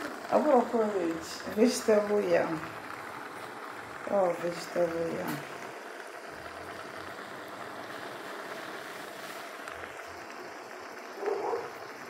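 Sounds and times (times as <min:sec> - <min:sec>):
pot simmering with hiss: 0:00.0 - 0:12.0.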